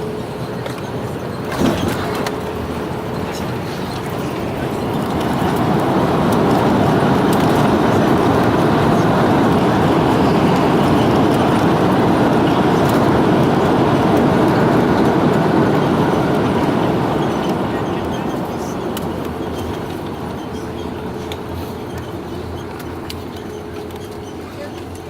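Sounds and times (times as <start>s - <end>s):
jet engine and airflow in cabin: 0.0s - 25.0s.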